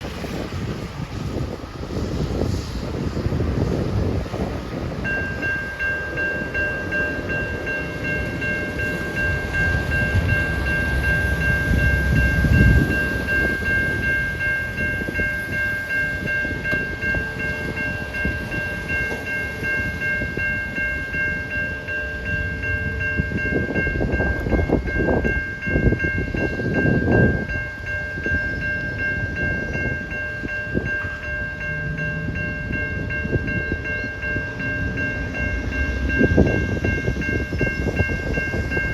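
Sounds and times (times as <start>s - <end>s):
electronic crossing bell ringing: 4.8s - 38.9s.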